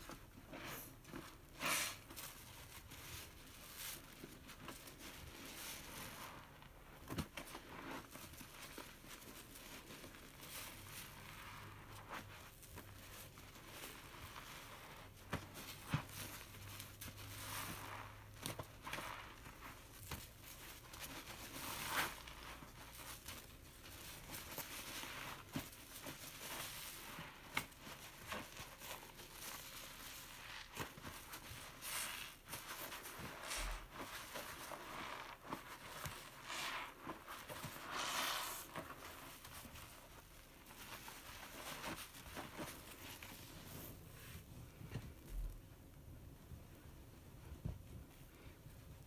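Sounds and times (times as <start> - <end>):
sponge squishing in foam: 0.0 - 45.5.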